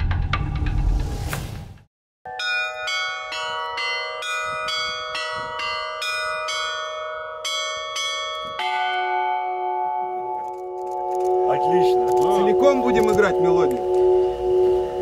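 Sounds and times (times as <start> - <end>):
low bell ringing: 2.3 - 15.0
tower clock bells chiming melody: 2.3 - 15.0.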